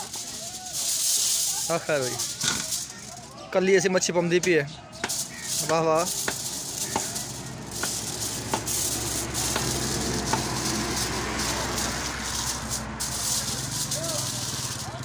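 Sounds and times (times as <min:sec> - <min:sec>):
aluminium foil crinkling: 0:00.0 - 0:03.4, 0:05.0 - 0:15.0.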